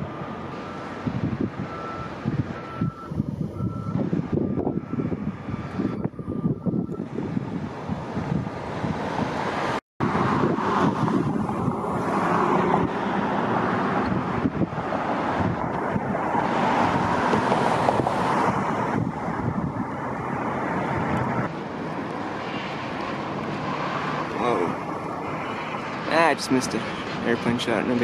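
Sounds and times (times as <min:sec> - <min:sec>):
passing road traffic: 0:00.0 - 0:28.0
wind buffeting microphone: 0:00.0 - 0:28.0.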